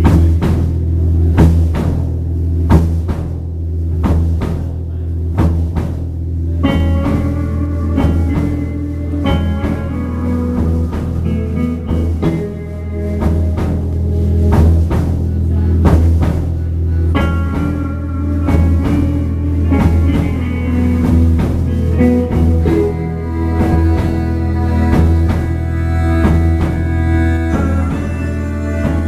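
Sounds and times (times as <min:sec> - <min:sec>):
rock band playing instrumental: 0:00.0 - 0:29.0.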